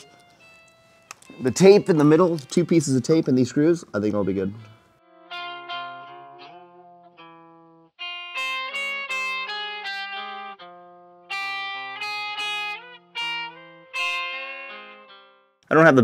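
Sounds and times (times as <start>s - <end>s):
plucked guitar melody: 0.0s - 16.0s.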